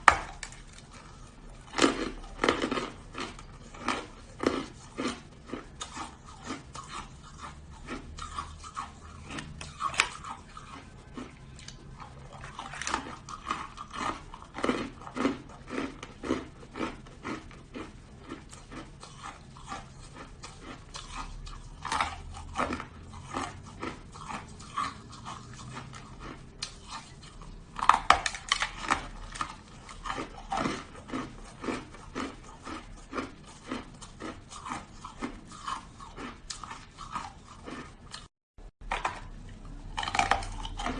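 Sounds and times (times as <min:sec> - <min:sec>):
ice crunched while chewing: 0:00.0 - 0:40.9.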